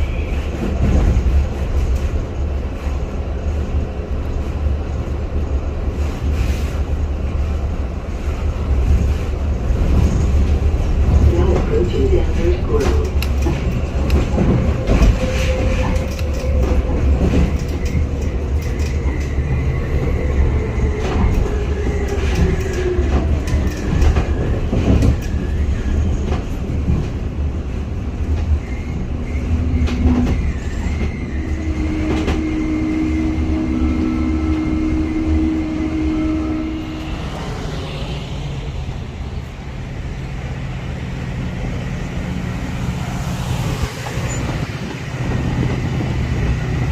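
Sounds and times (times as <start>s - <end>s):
train rumbling past: 0.0s - 46.9s.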